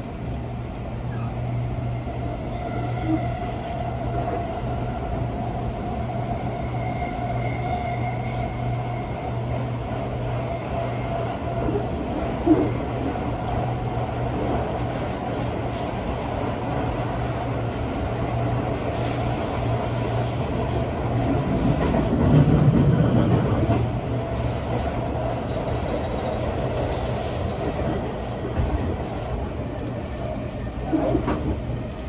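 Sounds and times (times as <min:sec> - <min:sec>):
rail rumble: 0:00.0 - 0:32.0.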